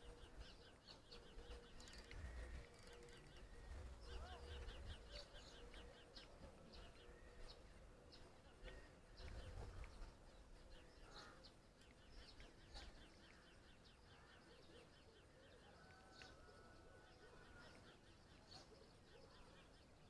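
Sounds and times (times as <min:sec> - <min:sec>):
faint songbirds chirping: 0:00.0 - 0:20.0.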